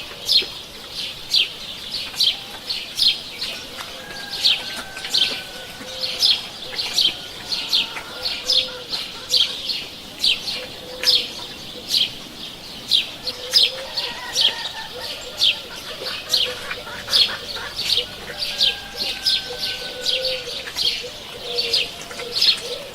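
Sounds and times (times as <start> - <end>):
small birds chirping: 0.0 - 22.9
dove cooing: 3.5 - 12.4, 13.0 - 22.9.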